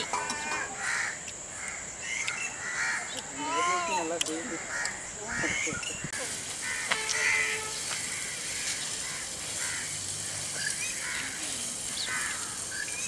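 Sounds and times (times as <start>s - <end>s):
crows cawing: 0.1s - 3.7s, 4.3s - 12.8s.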